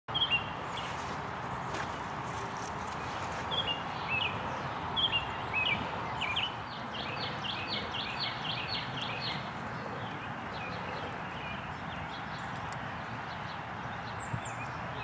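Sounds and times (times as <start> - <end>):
songbird singing: 0.1 - 15.0
steady outdoor hiss: 0.1 - 15.0.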